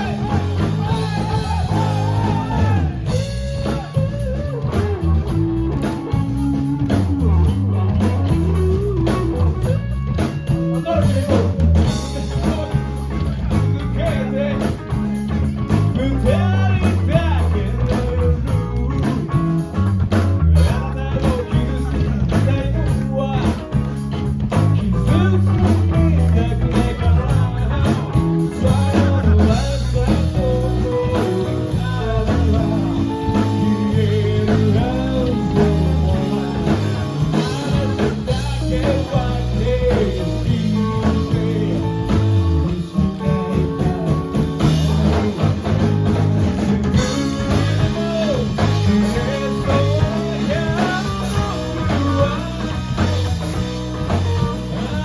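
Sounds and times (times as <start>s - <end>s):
person singing: 0.0s - 9.6s, 15.7s - 19.3s, 20.6s - 23.8s, 24.5s - 45.9s, 46.9s - 55.0s
bass guitar: 0.0s - 55.0s
electric guitar: 0.0s - 55.0s
steady drum beat: 0.0s - 55.0s.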